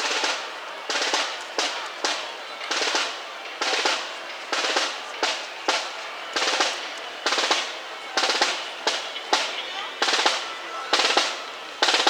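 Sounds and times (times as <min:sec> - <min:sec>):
snare drum rolls: 0:00.0 - 0:12.0.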